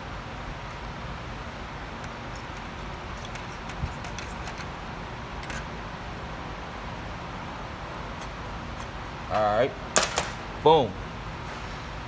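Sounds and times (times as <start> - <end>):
background hiss and hum: 0.0 - 12.0.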